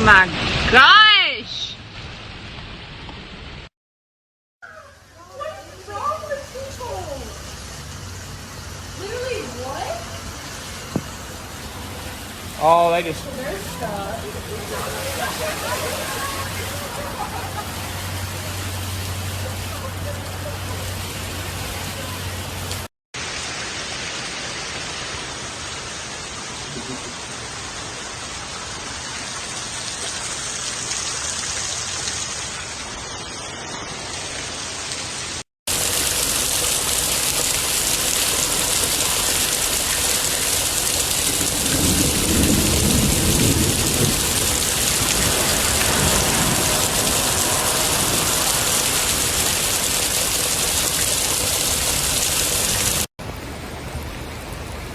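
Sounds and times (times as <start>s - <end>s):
heavy rain pouring: 4.7s - 54.9s.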